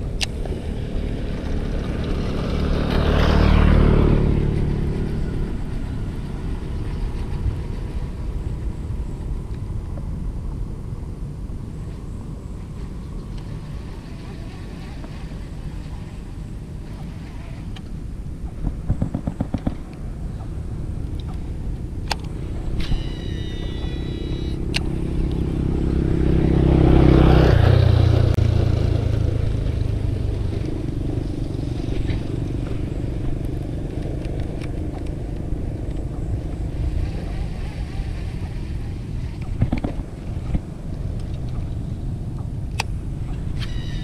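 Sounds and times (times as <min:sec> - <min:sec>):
motor engine passing by: 0:00.0 - 0:09.2, 0:12.5 - 0:17.7, 0:18.5 - 0:44.0.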